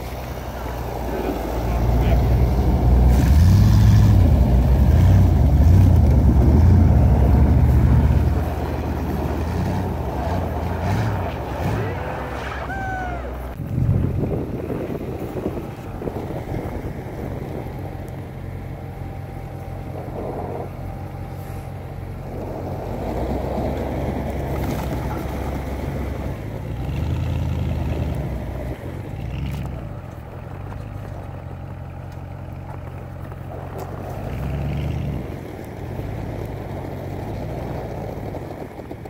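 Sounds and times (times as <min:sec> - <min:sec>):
pickup truck engine running: 0:00.0 - 0:39.0
tractor engine running: 0:00.0 - 0:39.0.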